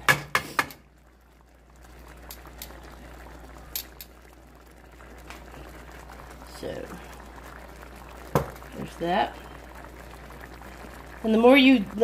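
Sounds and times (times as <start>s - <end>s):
sauce bubbling in a skillet: 0.0s - 12.0s.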